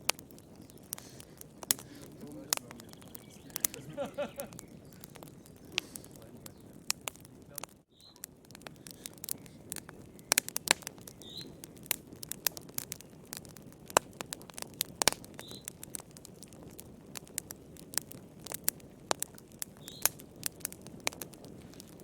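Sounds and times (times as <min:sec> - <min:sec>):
fire pops and snaps: 0:00.0 - 0:22.0
low rush of flame: 0:00.0 - 0:22.0.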